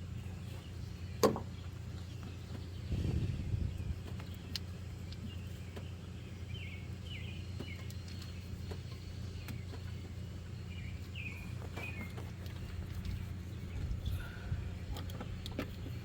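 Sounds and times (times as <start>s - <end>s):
low background hum: 0.0s - 16.0s
small birds chirping: 0.0s - 16.0s.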